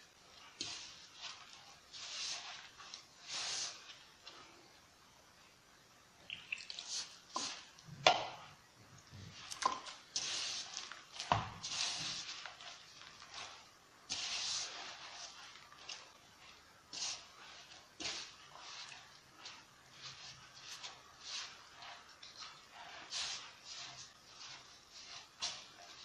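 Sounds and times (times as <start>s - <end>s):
dough rustling and squishing: 0.0s - 26.0s.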